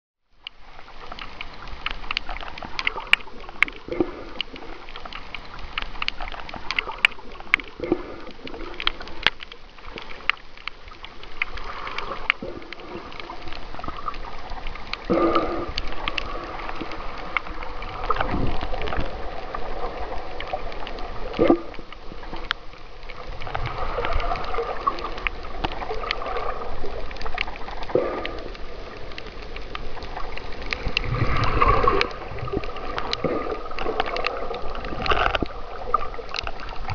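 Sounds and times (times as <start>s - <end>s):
sharp clicks and crackles: 0.4s - 36.9s
water gurgling underwater: 0.8s - 36.9s.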